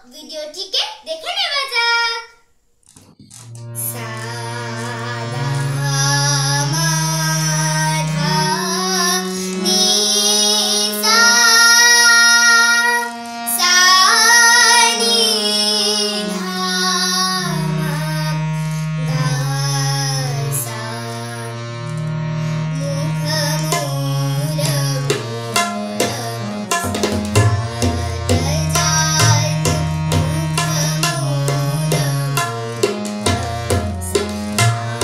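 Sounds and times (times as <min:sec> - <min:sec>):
harmonium holding steady notes: 0:03.3 - 0:35.0
girl singing classical style: 0:03.8 - 0:21.6, 0:22.7 - 0:35.0.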